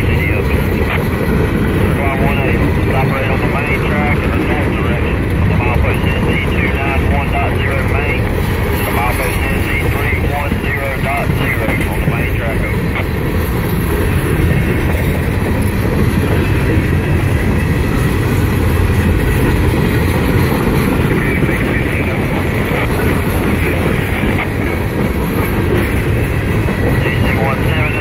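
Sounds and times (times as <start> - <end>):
freight cars rumbling on rails: 0.0 - 28.0.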